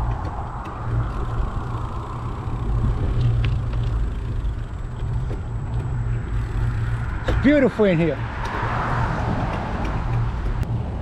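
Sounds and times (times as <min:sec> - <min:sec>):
tyres rumbling on asphalt: 0:00.0 - 0:11.0
wind on microphone: 0:00.0 - 0:11.0.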